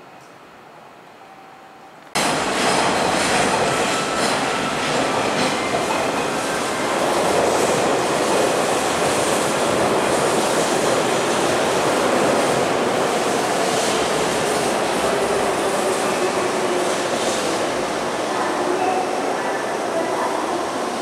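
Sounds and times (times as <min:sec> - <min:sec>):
train wheels rumbling on rails: 0:02.1 - 0:21.0.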